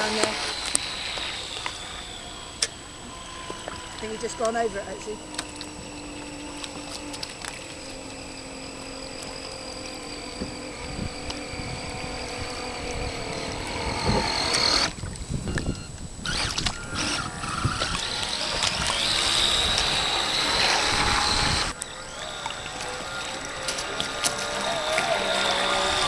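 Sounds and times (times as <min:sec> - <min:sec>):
model speedboat motor whine: 0:00.0 - 0:26.0.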